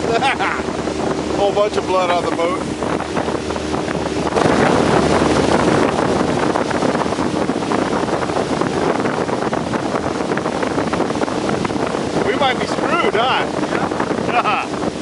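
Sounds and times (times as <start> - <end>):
boat motor running: 0.0 - 15.0
wind buffeting microphone: 0.0 - 15.0.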